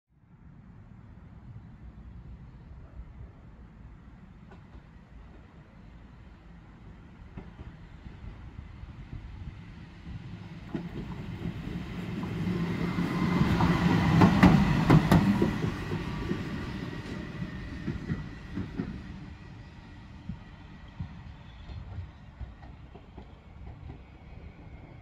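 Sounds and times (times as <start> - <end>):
electric locomotive passing: 0.4 - 25.0.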